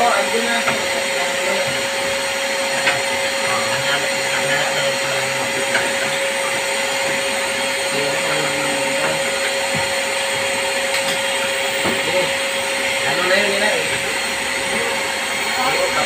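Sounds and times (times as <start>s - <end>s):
vacuum cleaner whine: 0.0s - 16.0s.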